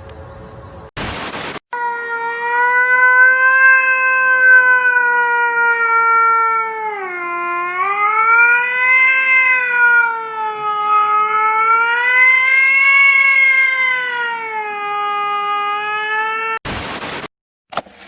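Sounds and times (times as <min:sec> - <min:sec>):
cat yowling: 0:01.8 - 0:16.6.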